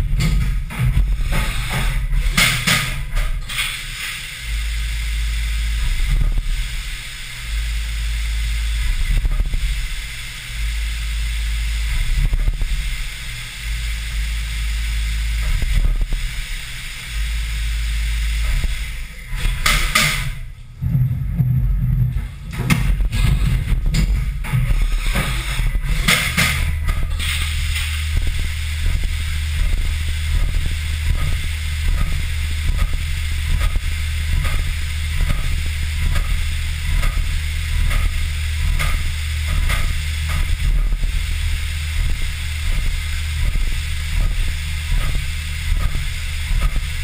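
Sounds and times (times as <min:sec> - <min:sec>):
coolant spraying hiss: 0:00.0 - 0:20.5, 0:22.9 - 0:47.0
milling machine low hum: 0:00.0 - 0:47.0.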